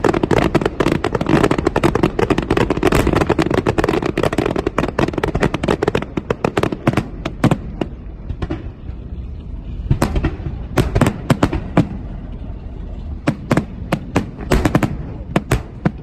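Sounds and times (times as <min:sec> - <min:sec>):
fireworks crackling and booming: 0:00.0 - 0:16.0.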